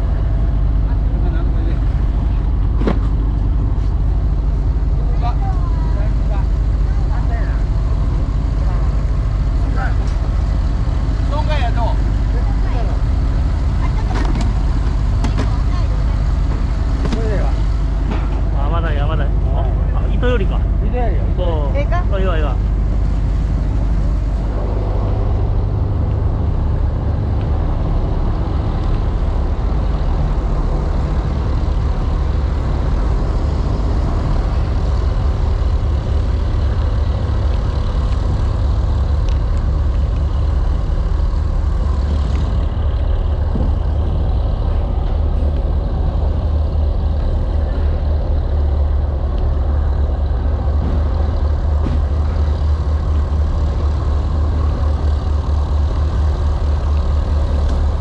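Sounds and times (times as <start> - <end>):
boat diesel engine droning: 0.0 - 58.0.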